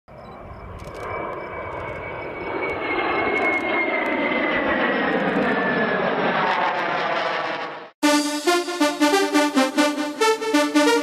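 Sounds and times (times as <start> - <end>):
aircraft engine drone: 0.1 - 11.0.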